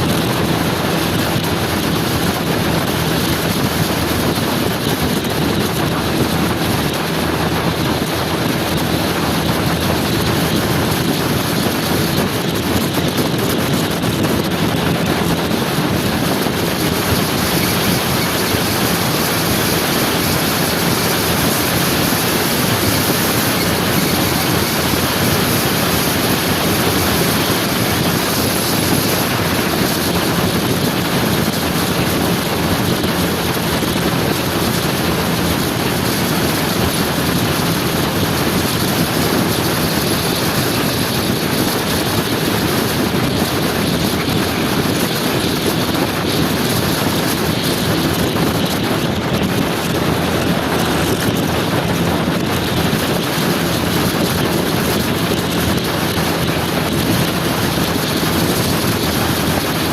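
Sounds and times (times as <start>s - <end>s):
scooter engine running: 0.0s - 59.9s
wind rushing over microphone: 0.0s - 59.9s.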